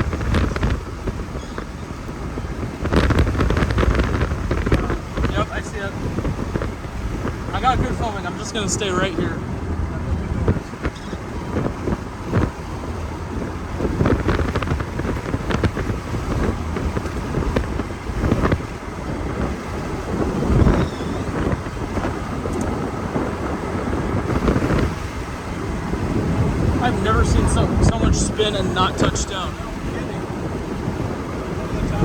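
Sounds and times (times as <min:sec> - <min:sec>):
gusty wind on microphone: 0:00.0 - 0:32.0
wind buffeting thumps: 0:00.0 - 0:32.0.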